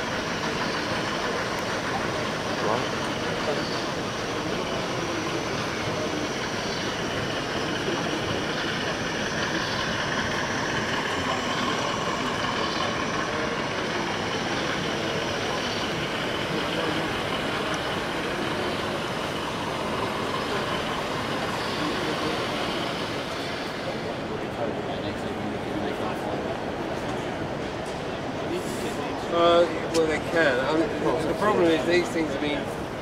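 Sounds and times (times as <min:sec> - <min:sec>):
busy exhibition hall din: 0:00.0 - 0:33.0.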